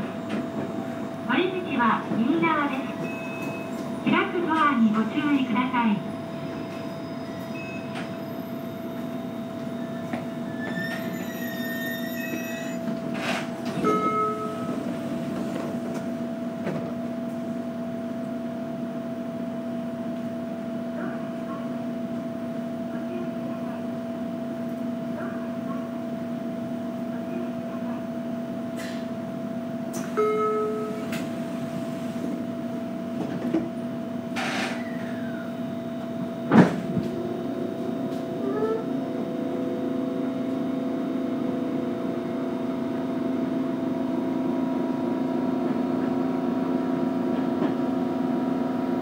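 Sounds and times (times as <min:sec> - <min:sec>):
train car rumble: 0:00.0 - 0:49.0
train electrical hum: 0:00.0 - 0:49.0.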